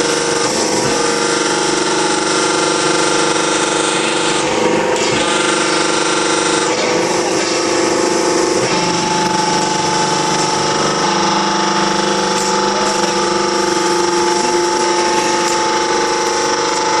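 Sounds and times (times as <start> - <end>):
hydraulic pump motor whining: 0.0 - 17.0.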